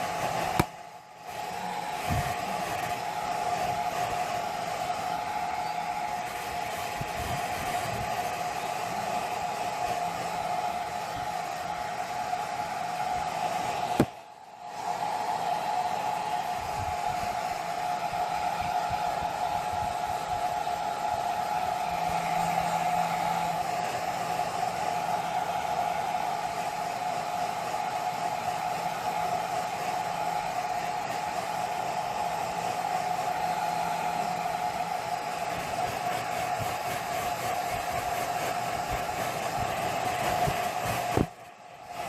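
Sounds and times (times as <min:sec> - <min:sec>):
hair dryer blowing: 0:00.0 - 0:42.0.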